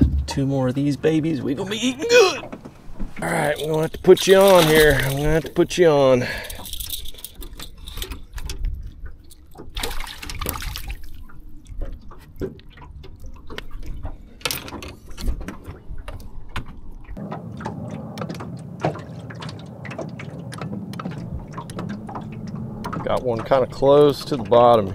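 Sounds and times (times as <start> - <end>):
water splashing and dripping: 1.7 - 14.3, 15.1 - 24.9.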